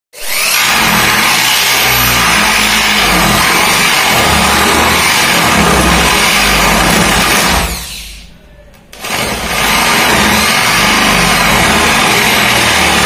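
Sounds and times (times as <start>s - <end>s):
electric drill boring wood: 0.2s - 8.0s, 9.0s - 13.0s.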